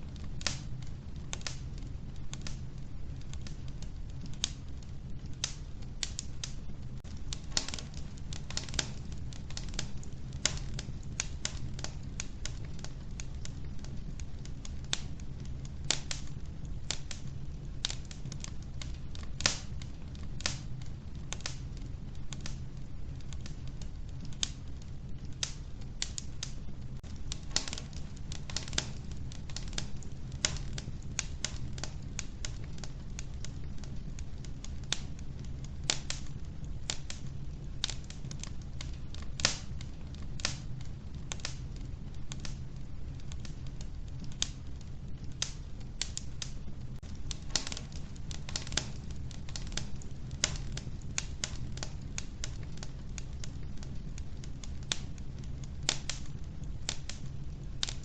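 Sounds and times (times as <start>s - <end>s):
flames rumbling: 0.0s - 58.0s
logs crackling and popping: 0.0s - 58.0s.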